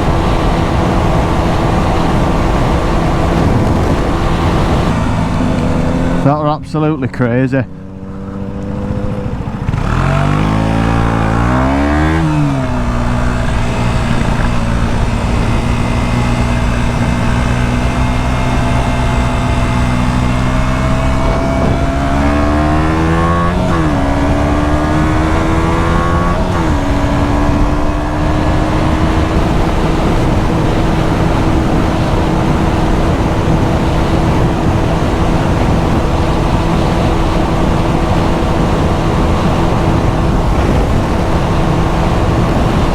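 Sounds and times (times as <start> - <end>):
wind rushing: 0.0 - 6.5, 7.8 - 42.9
motorcycle engine accelerating: 0.0 - 42.9.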